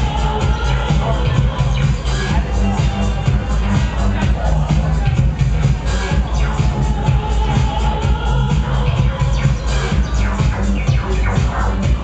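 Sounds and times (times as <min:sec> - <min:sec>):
heavy bass: 0:00.0 - 0:12.0.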